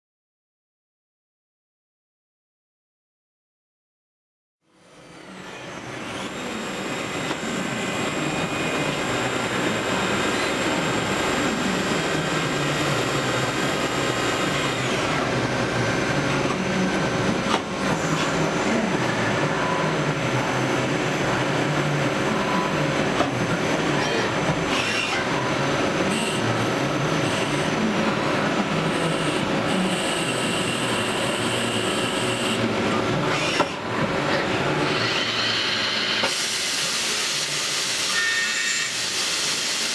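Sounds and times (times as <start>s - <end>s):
cutting and coolant noise: 4.7s - 39.9s
lathe whine and hum: 4.7s - 39.9s.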